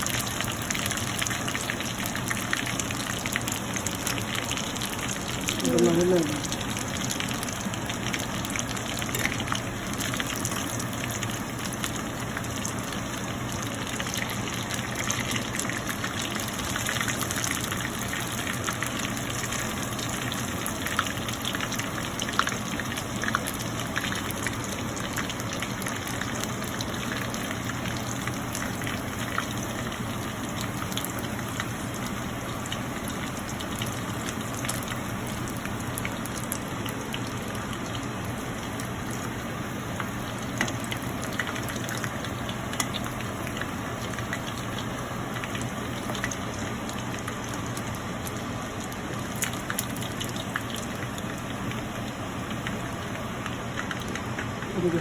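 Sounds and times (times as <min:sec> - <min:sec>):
food sizzling in hot oil: 0:00.0 - 0:55.0
oil popping and crackling: 0:00.0 - 0:55.0.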